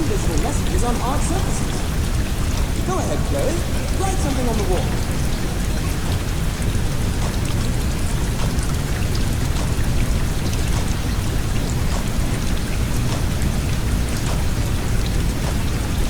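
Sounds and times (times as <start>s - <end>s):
rain drops ticking: 0.0s - 16.0s.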